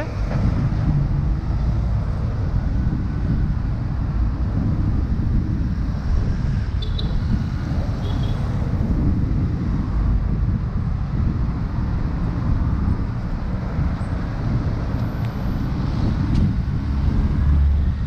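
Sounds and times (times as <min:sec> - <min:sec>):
street traffic: 0:00.0 - 0:18.0
wind on microphone: 0:00.0 - 0:18.0.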